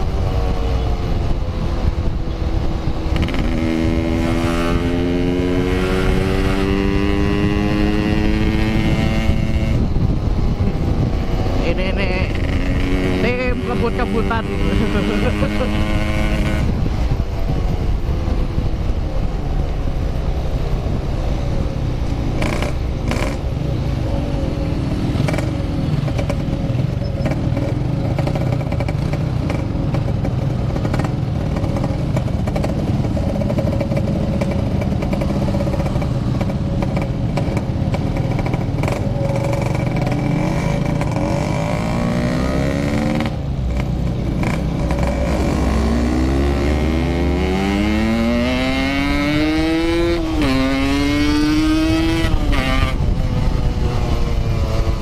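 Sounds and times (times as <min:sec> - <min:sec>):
motorcycle engine revving: 0:00.0 - 0:18.5, 0:22.1 - 0:55.0
road and wind noise: 0:00.0 - 0:55.0.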